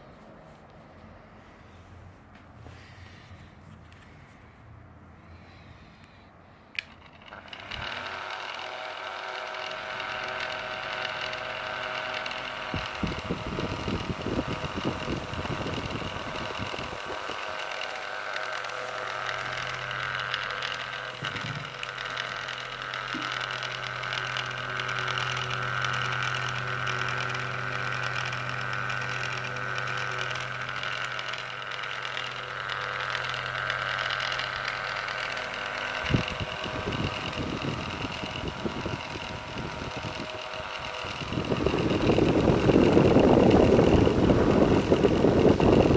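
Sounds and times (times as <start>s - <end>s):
deeper steady hum: 0.0s - 45.9s
electric fan humming and whirring: 0.0s - 45.9s
rough rattle: 6.8s - 45.9s.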